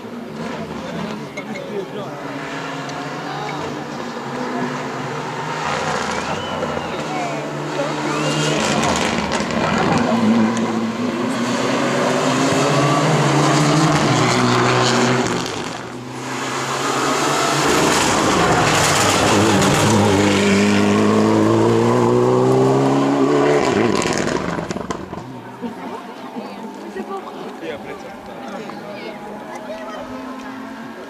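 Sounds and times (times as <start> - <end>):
rally car engine at full throttle: 0.0 - 31.0.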